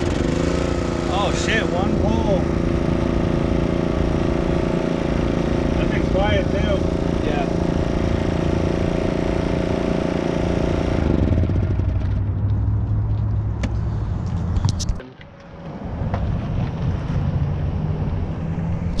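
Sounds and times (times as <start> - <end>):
generator engine running: 0.0 - 16.1.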